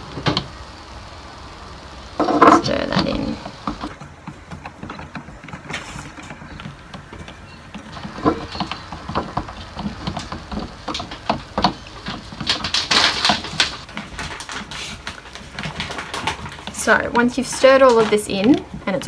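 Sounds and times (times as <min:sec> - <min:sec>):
stick stirring wax in bowl: 0:02.2 - 0:19.0.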